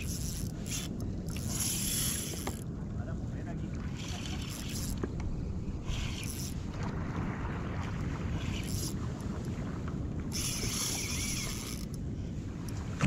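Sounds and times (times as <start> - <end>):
water splashing against hull: 0.0 - 13.0
wind rumbling on microphone: 0.0 - 13.0.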